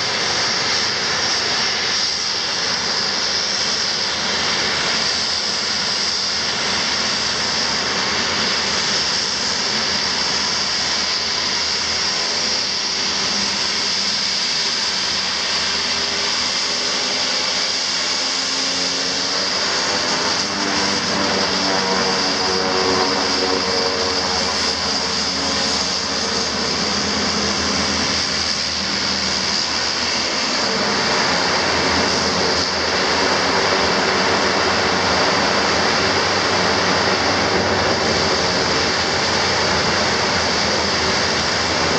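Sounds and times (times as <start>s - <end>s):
propeller drone: 0.0s - 41.9s
turboprop engines whining: 0.0s - 41.9s.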